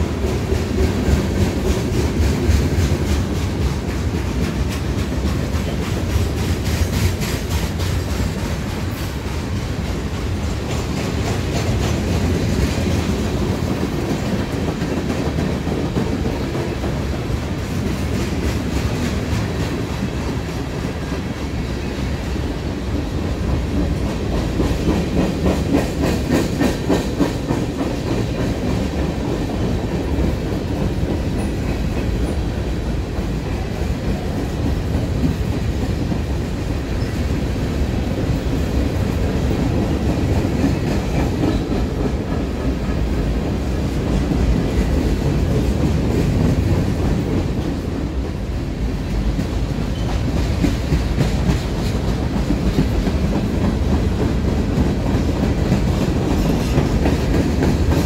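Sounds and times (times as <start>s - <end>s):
freight train rumbling: 0.0s - 58.0s.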